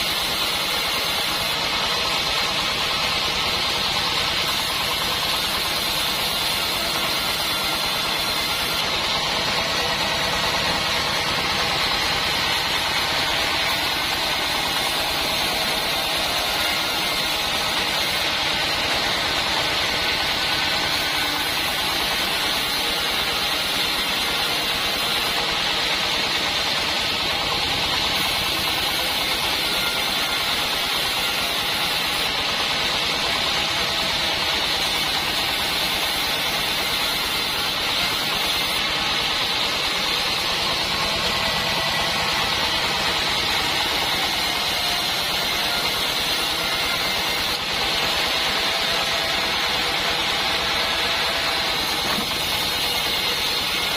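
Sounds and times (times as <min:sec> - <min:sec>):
band saw running: 0:00.0 - 0:53.9.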